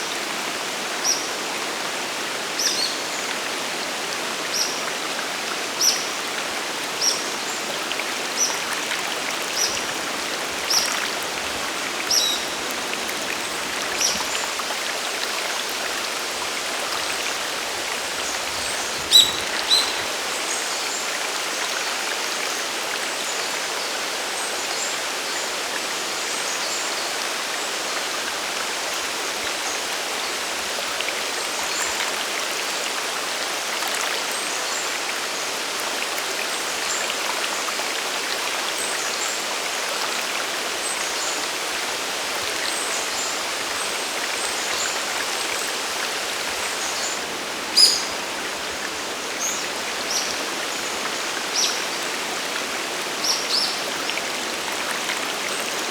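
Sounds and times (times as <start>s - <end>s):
waterfall rushing water: 0.0s - 55.9s.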